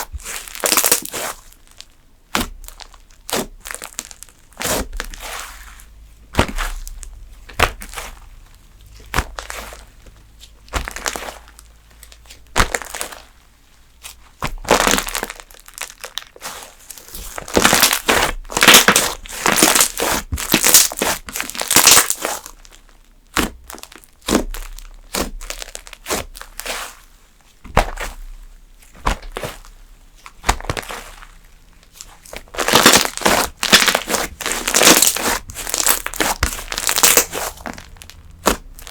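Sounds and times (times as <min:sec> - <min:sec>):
slime crackling: 0:00.0 - 0:38.9
slime squished by hand: 0:00.2 - 0:13.3, 0:14.0 - 0:38.9.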